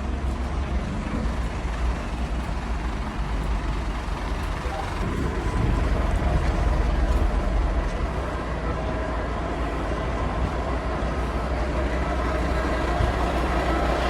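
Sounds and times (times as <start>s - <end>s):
fire engine running: 0.0s - 14.0s.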